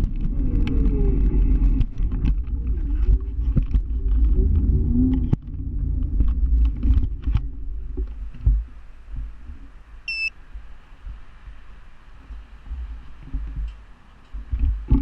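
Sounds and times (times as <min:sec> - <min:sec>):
wind and road rumble on microphone: 0:00.0 - 0:15.0.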